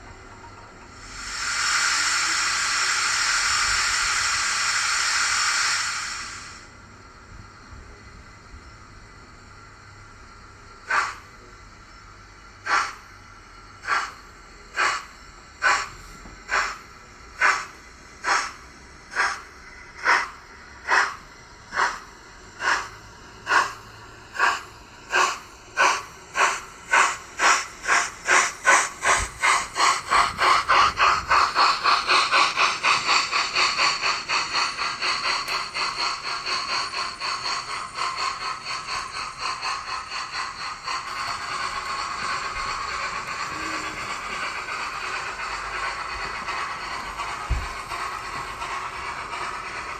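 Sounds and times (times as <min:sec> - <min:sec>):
model steam locomotive chuffs: 0:00.0 - 0:49.9.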